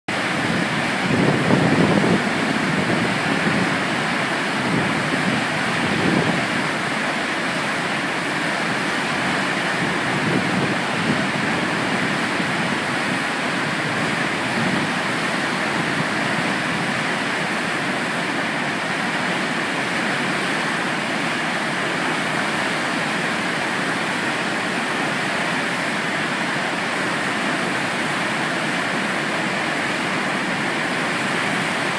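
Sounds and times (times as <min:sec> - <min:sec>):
water rushing through dam spillway: 0:00.1 - 0:31.9.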